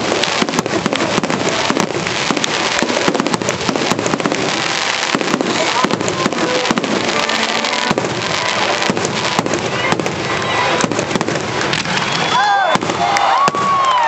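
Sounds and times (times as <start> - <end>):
fireworks banging and crackling: 0.0 - 14.0.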